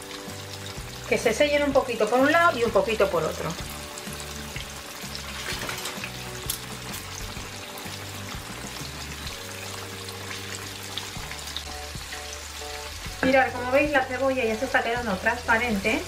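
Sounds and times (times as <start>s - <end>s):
hot oil sizzling and popping: 0.0s - 16.0s
music with low chords: 0.0s - 16.0s.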